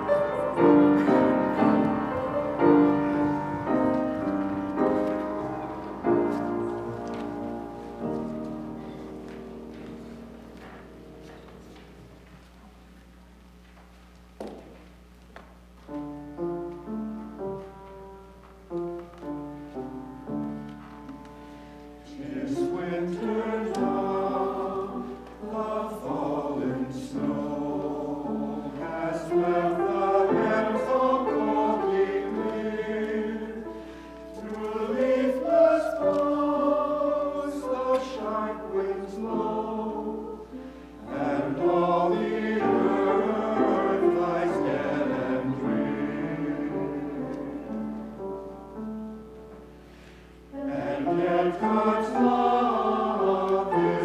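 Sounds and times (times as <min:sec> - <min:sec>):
church choir singing: 0:00.0 - 0:11.8, 0:19.0 - 0:49.3, 0:49.9 - 0:54.0
piano accompaniment: 0:00.0 - 0:12.2, 0:15.7 - 0:54.0.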